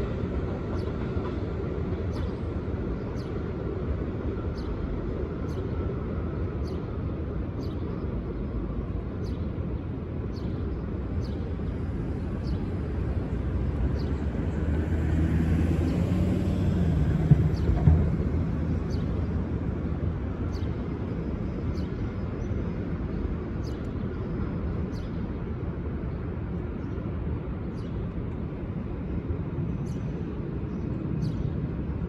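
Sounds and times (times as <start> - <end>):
subway train rumble: 0.0 - 32.0.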